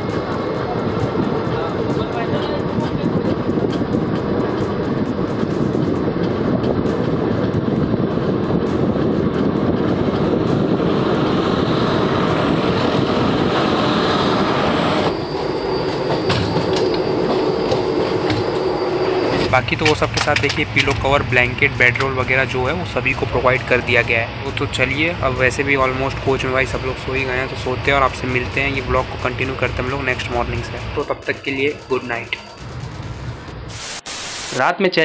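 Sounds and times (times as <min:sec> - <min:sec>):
train wheels rumbling and rattling: 0:00.0 - 0:33.8.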